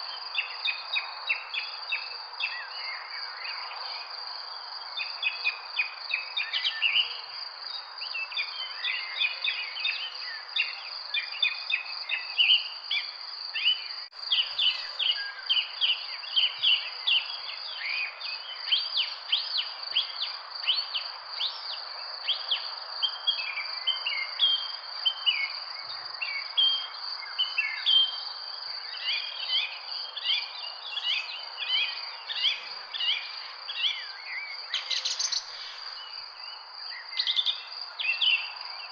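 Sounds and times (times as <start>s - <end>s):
small birds chirping: 4.9s - 38.9s.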